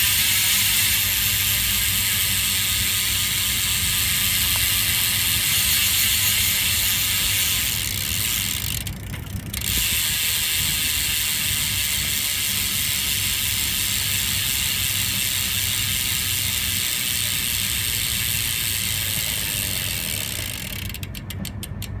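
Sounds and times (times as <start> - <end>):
bicycle hub ratcheting buzz: 0.0 - 21.8.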